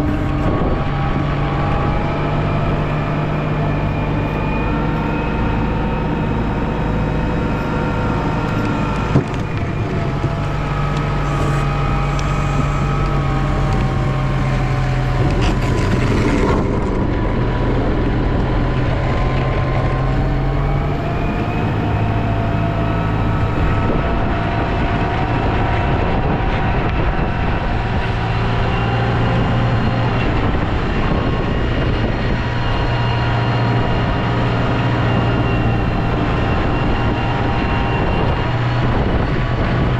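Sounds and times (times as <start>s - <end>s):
snowplow engine running: 0.0s - 39.9s.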